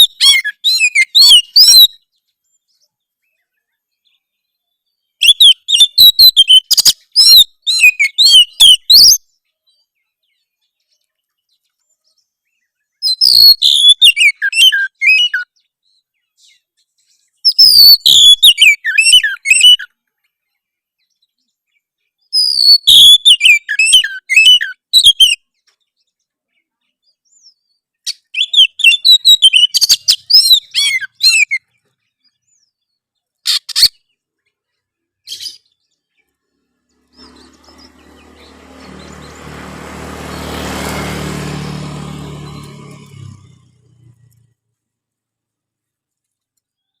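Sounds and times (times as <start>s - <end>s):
bird chattering song: 0.0s - 44.5s.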